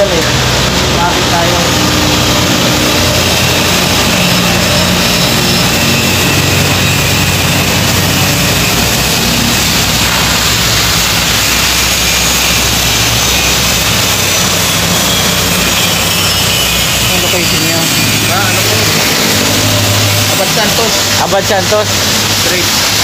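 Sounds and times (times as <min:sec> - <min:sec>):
machine low hum: 0:00.0 - 0:23.0
machine rushing hiss: 0:00.0 - 0:23.0.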